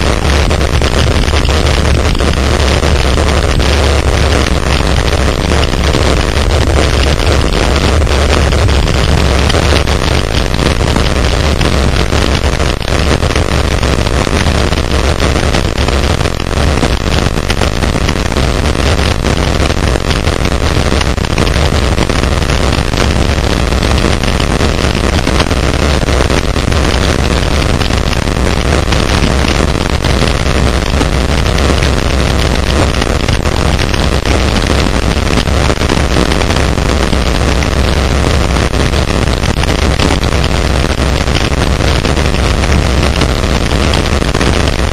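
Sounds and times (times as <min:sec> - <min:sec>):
wind rumble on microphone: 0:00.0 - 0:44.9.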